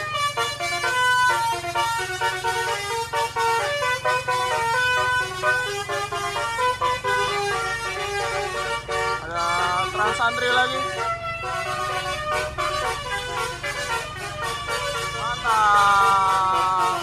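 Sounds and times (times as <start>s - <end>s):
low steady hum of bus: 0.0s - 17.0s
multi-tone bus horn playing a tune: 0.0s - 17.0s.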